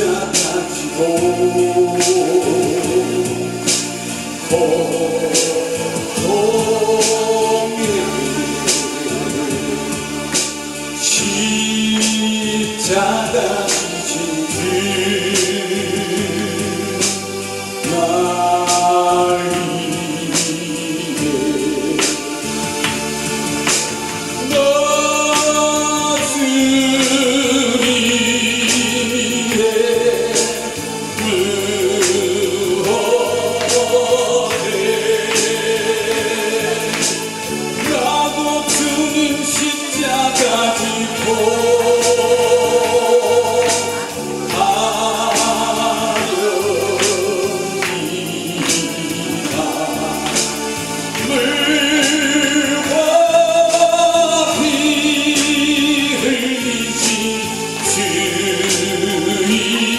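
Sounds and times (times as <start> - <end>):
keyboard accompaniment with beat: 0.0 - 59.9
man singing into microphone: 0.0 - 59.9.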